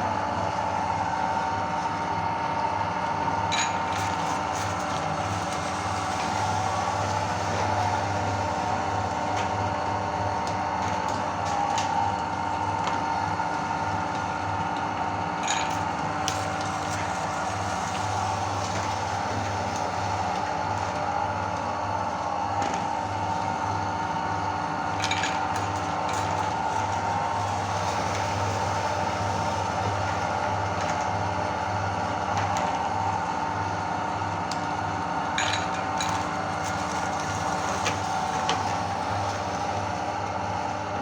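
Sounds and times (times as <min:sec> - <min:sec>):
electric meat grinder humming: 0:00.0 - 0:41.0.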